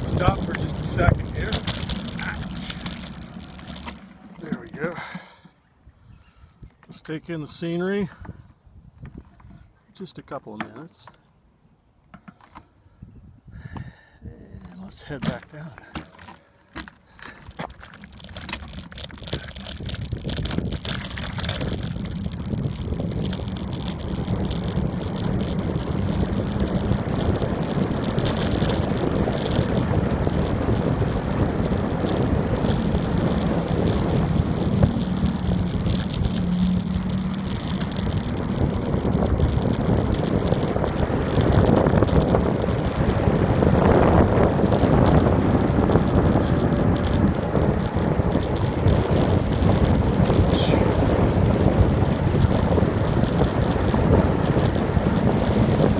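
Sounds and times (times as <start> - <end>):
rushing wind: 0.0 - 5.2, 12.9 - 55.9
bicycle tyre noise on road: 0.0 - 6.7, 14.9 - 55.9.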